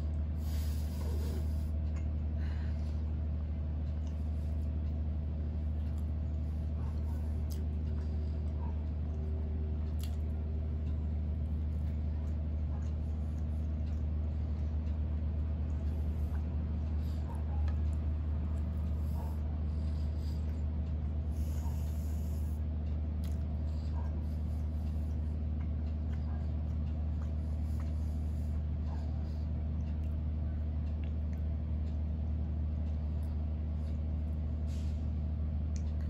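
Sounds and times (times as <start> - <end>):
soft chewing: 0.0 - 36.0
steady low hum: 0.0 - 36.0.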